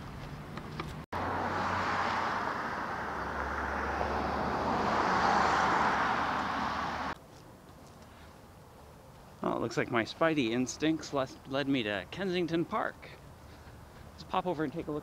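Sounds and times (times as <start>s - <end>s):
vehicle engine and tyres: 0.0s - 15.0s.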